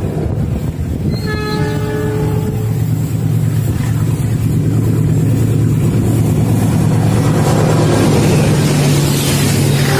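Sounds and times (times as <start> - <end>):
diesel locomotive engine drone: 0.0 - 9.9.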